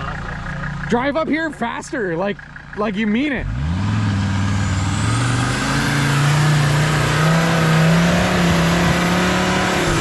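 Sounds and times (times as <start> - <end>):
diesel engine at high revs: 0.0 - 10.0.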